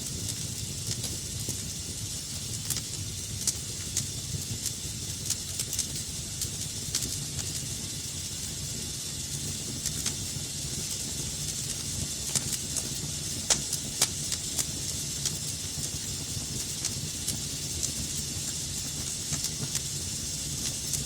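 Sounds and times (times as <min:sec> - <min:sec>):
fire crackling in a fireplace: 0:00.0 - 0:21.0
sharp pops of fire: 0:00.0 - 0:21.0.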